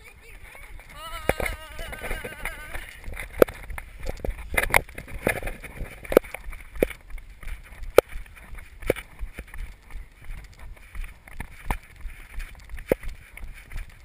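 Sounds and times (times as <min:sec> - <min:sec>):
footsteps on pavement: 0:00.0 - 0:14.0
wind rumbling on microphone: 0:00.0 - 0:14.0.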